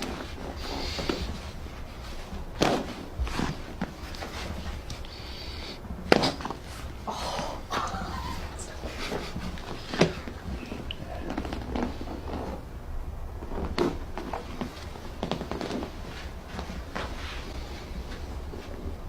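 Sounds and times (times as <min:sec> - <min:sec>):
rustling movement: 0:00.0 - 0:19.0.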